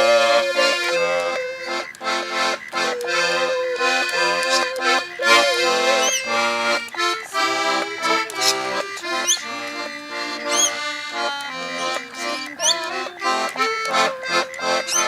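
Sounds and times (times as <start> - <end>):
accordion playing a tune: 0.0 - 15.0
high bird calls: 0.0 - 15.0.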